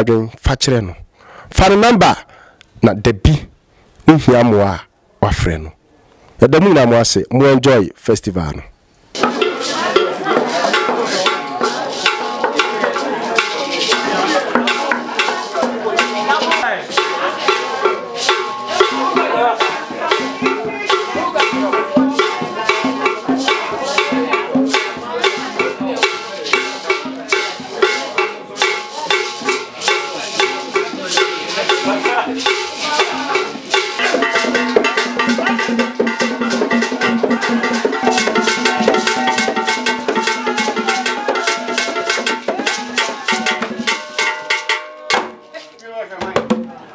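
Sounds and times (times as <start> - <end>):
hand drum ensemble playing: 9.1 - 46.9
music with fast percussion beat: 9.1 - 46.9.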